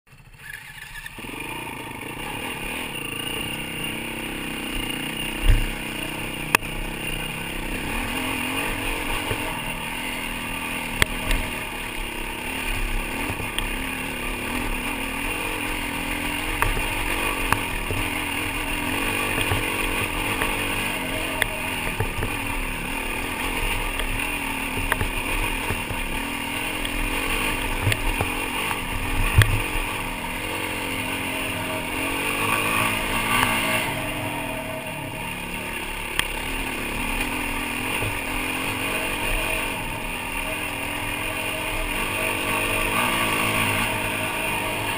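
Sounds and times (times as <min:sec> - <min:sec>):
dirt bike engine running: 0:00.1 - 0:44.9.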